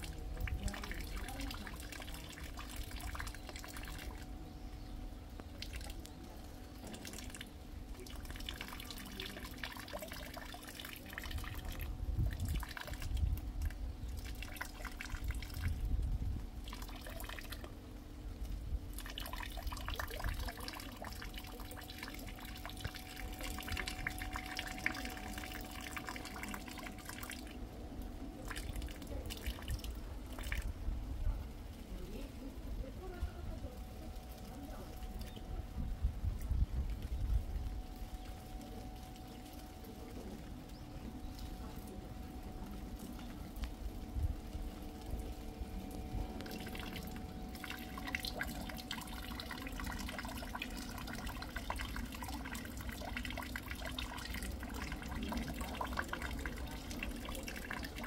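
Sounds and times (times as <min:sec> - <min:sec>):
faint steady hum: 0:00.0 - 0:58.0
rain dripping: 0:00.0 - 0:58.0
rainwater trickling: 0:00.0 - 0:58.0.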